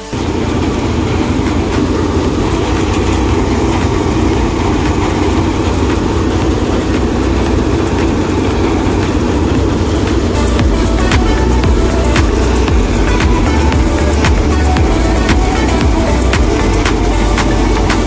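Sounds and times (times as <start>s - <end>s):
tractor diesel engine and thresher drone: 0.0s - 18.0s.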